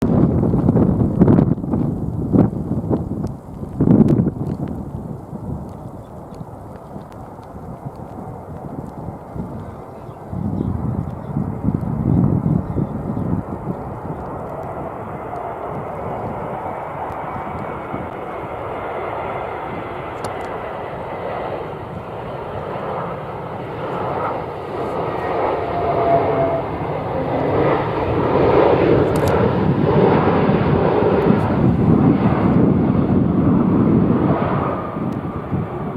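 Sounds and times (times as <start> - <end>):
jet airliner approaching: 0.0 - 35.9.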